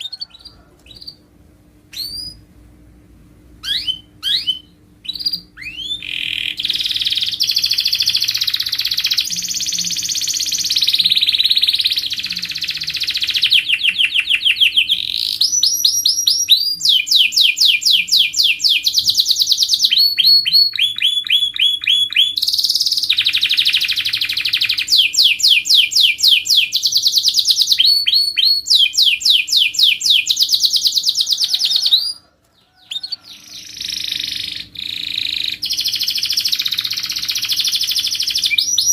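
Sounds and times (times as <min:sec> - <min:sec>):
canary singing trills: 0:00.0 - 0:01.3, 0:01.9 - 0:02.5, 0:03.6 - 0:38.9
faint steady hum: 0:00.0 - 0:38.9.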